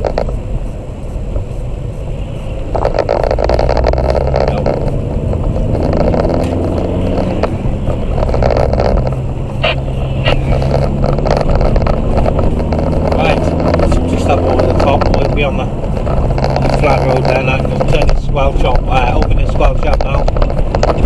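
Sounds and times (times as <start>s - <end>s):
car engine running: 0.0s - 21.0s
road and tyre noise: 0.0s - 21.0s.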